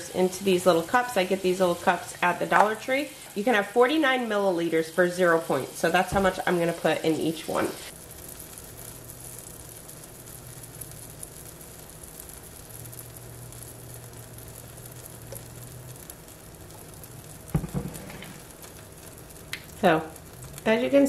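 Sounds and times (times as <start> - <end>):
waffle maker sizzling: 0.0 - 21.0.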